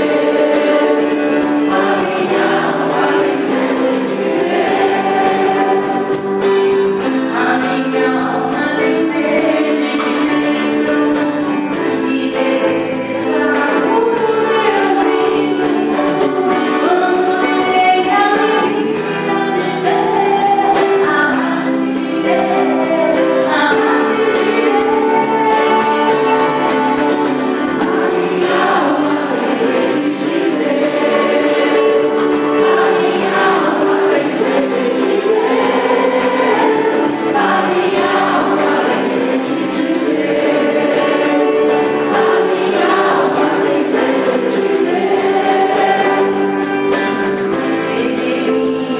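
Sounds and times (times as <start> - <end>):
choir singing: 0.0 - 48.9
rhythmic instrumental accompaniment: 0.0 - 48.9
woman singing: 7.0 - 46.9, 47.6 - 48.9.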